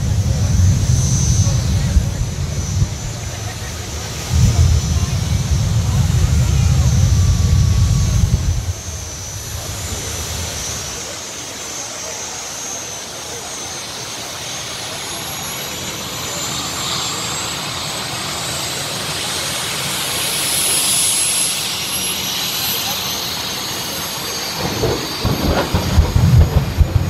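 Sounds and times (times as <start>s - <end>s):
high-pitched turbine whine: 0.0s - 27.0s
jet engine low rumble: 0.0s - 27.0s.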